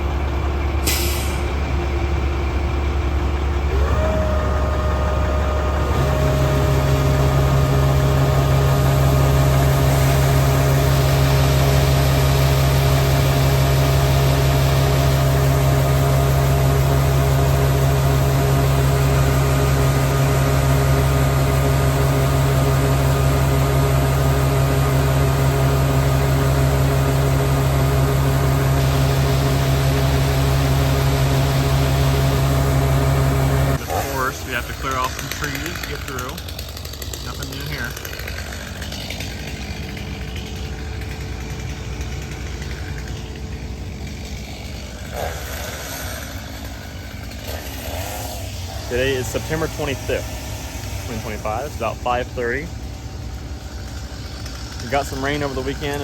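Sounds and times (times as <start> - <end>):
deep steady hum: 0.0 - 56.0
diesel engine running: 0.0 - 56.0.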